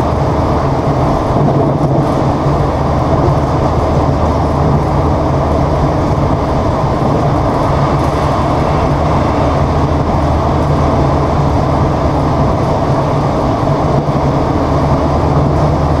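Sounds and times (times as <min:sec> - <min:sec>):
train diesel and wheels droning: 0:00.0 - 0:16.0.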